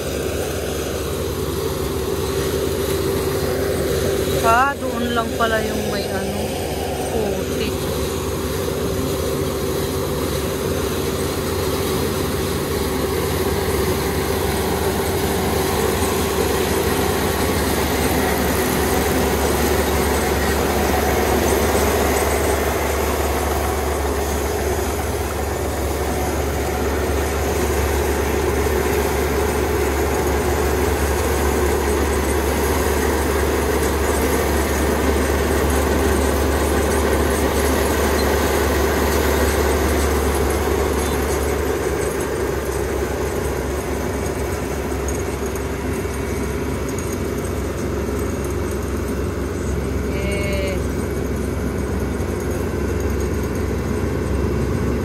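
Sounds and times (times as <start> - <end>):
combine harvester engine drone: 0.0 - 55.0
steady mid-pitched machinery tone: 0.0 - 55.0.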